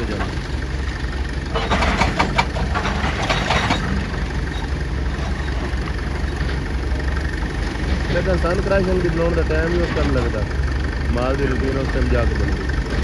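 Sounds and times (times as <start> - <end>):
diesel machinery engine droning: 0.0 - 13.0
gritty rattling: 0.0 - 13.0.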